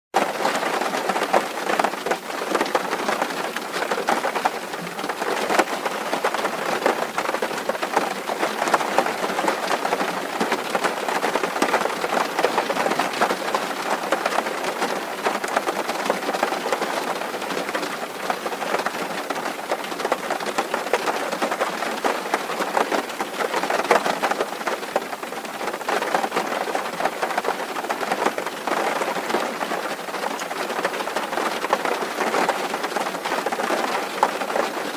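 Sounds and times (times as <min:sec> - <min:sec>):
rain on a metal roof: 0:00.1 - 0:34.9.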